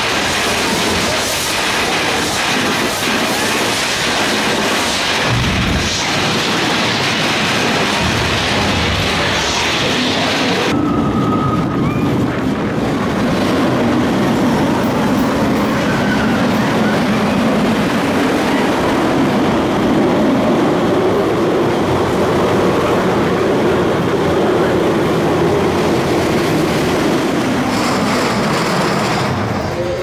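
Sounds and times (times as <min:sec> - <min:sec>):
roller coaster wheels rumbling on rails: 0:00.0 - 0:30.0.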